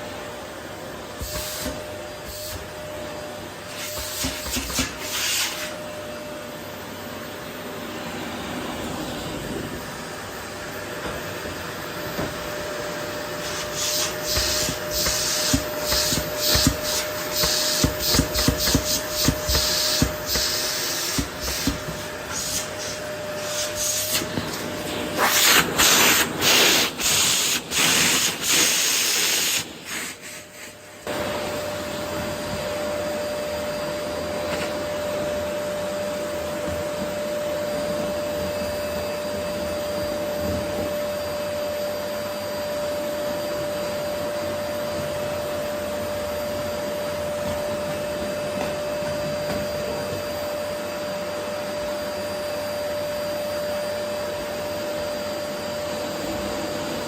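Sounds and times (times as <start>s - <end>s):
vacuum cleaner whine: 0.0s - 57.0s.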